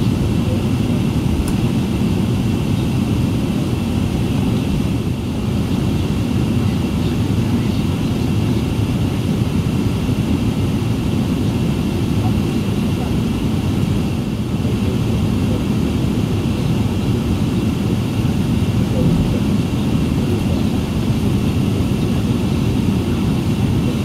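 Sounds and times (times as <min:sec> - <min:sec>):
low rumble in aircraft cabin: 0:00.0 - 0:24.0.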